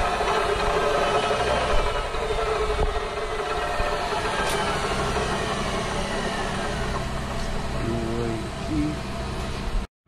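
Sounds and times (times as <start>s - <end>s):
engine droning: 0.0s - 9.9s.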